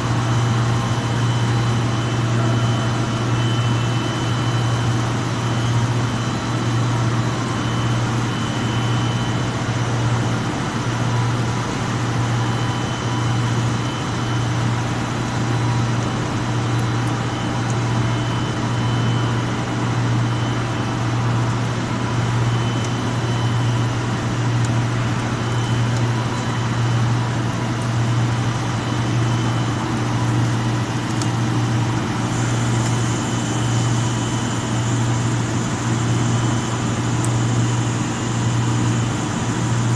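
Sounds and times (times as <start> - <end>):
constant mechanical noise: 0.0 - 39.9.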